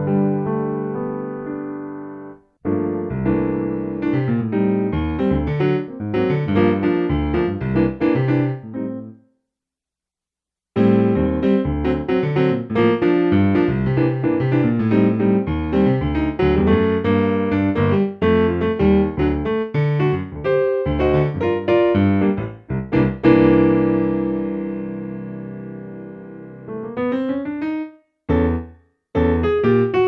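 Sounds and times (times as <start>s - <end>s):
keyboard playing piano sound: 0.0s - 9.2s, 10.8s - 30.0s.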